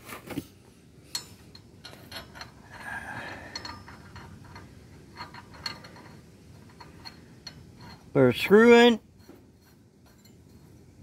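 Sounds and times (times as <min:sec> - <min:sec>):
metal parts clicking and tapping: 0:01.0 - 0:11.0
metal scrape: 0:01.1 - 0:11.0.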